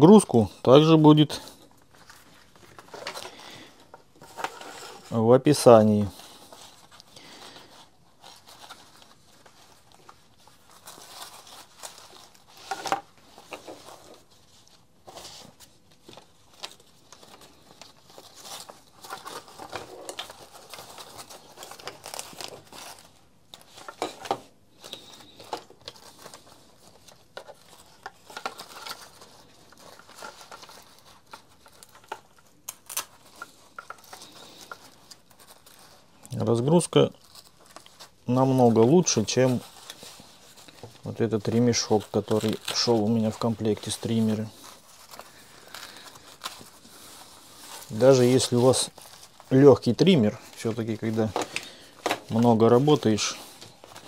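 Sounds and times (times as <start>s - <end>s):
nylon fabric rustling: 4.1s - 54.0s.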